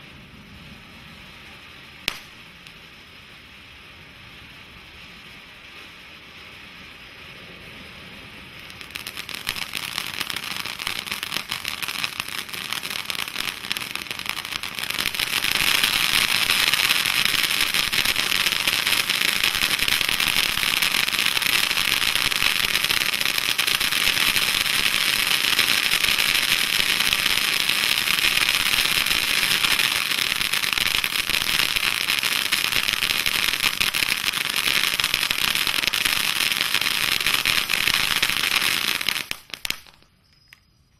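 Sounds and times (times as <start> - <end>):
fountain firework crackling hiss: 0.0 - 40.2.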